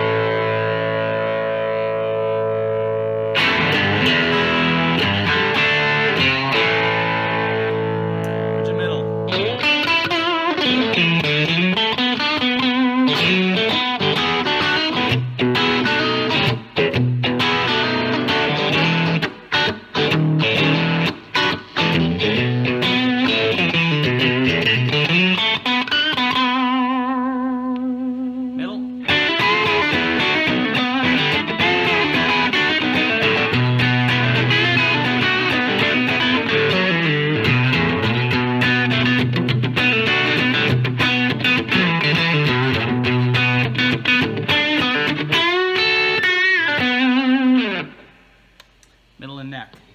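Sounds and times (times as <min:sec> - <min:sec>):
overdriven electric guitar lead: 0:00.0 - 0:48.2.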